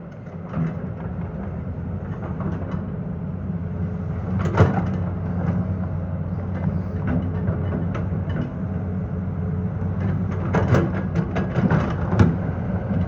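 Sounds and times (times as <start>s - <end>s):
diesel engine running: 0.2s - 13.0s.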